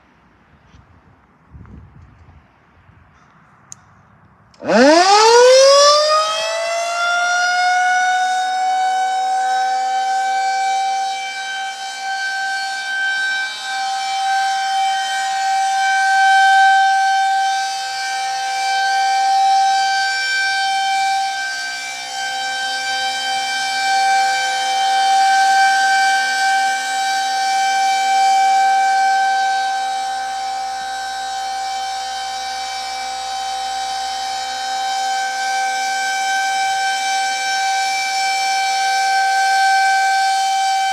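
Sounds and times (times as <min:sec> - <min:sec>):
steady warning siren: 0:04.5 - 0:40.9.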